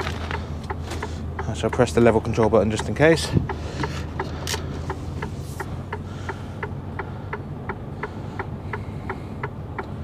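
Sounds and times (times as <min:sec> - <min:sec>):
diesel engine idling: 0:00.0 - 0:10.0
rapid dashboard ticking: 0:00.0 - 0:10.0.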